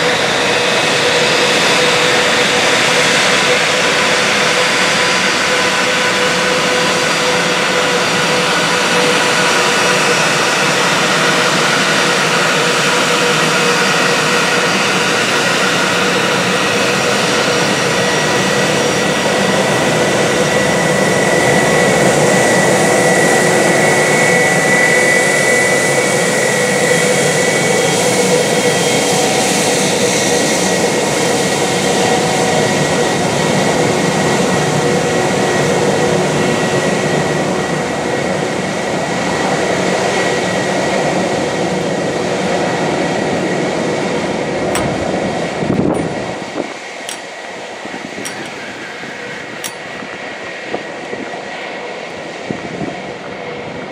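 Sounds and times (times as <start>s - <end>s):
jet engines whining at taxi: 0.0s - 53.9s.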